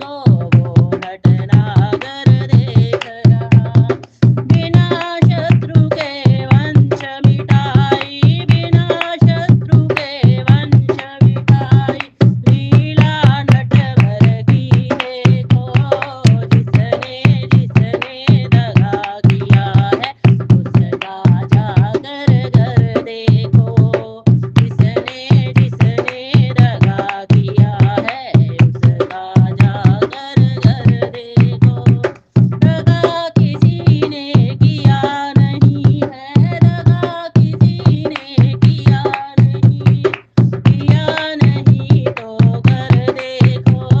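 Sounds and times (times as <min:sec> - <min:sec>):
person singing devotional song: 0:00.0 - 0:44.0.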